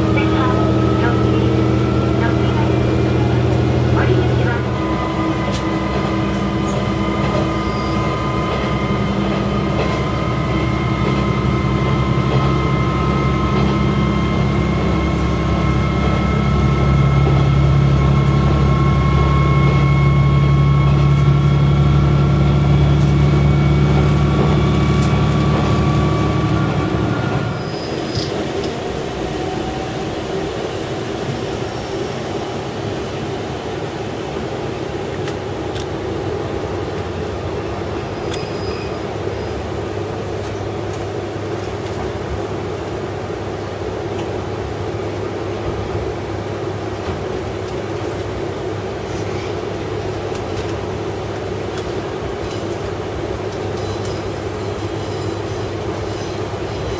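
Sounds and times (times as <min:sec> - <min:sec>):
diesel engine drone: 0:00.0 - 0:56.9
train running quietly: 0:00.0 - 0:56.9.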